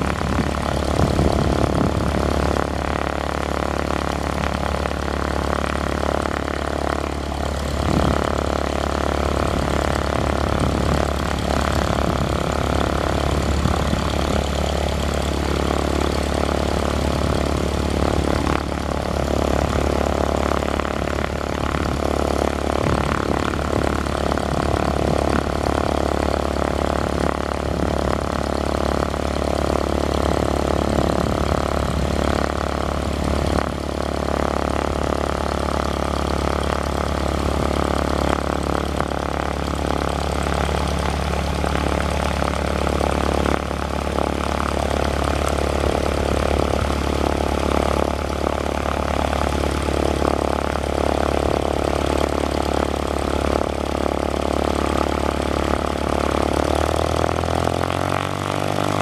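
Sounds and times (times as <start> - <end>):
aircraft piston engine idling: 0.0 - 59.0.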